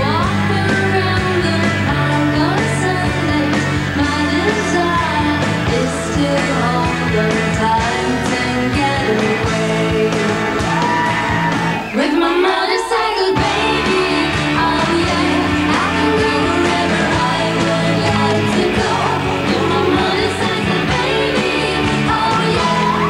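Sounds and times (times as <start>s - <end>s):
women singing: 0.0s - 10.8s, 11.9s - 23.0s
bass and drums: 0.0s - 23.0s
electric guitar: 0.0s - 23.0s.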